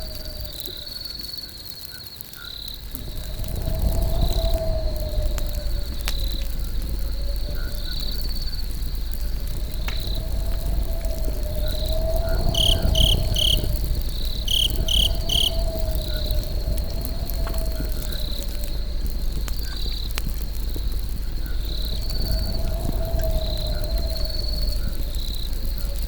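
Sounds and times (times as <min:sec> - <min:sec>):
campfire crackling: 0:00.0 - 0:26.0
crickets chirping: 0:00.0 - 0:26.0
low rumble: 0:02.5 - 0:26.0
wavering hum: 0:02.7 - 0:26.0.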